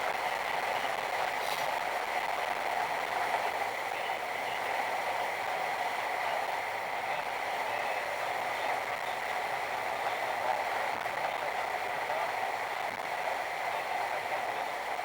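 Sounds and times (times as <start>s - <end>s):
heavy rain: 0.0s - 15.0s
tyres on wet road: 0.0s - 15.0s.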